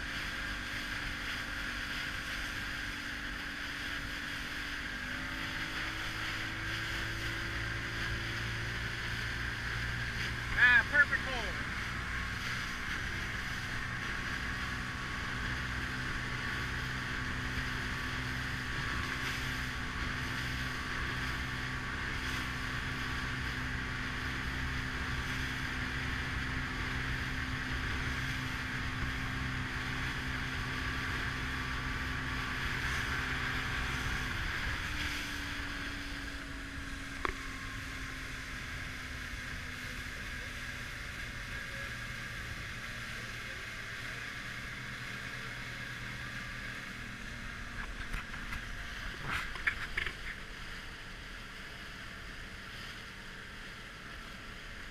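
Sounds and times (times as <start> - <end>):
motorboat engine running: 0.0 - 54.9
water rushing past hull: 0.0 - 54.9.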